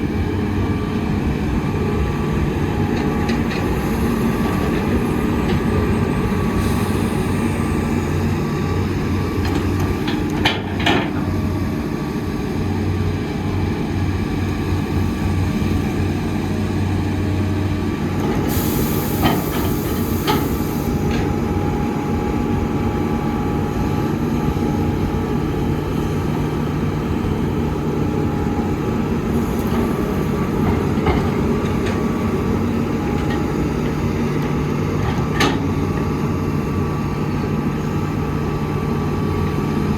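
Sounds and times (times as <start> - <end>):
diesel engine deep rumble: 0.0 - 39.9.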